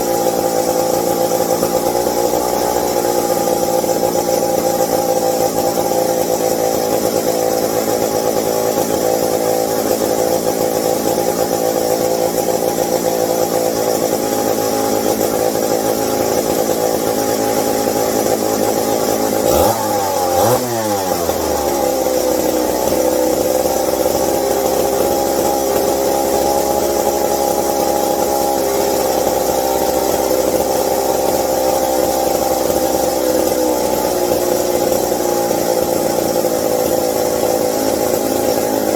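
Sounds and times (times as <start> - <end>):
chainsaw engine running: 0.0 - 38.9.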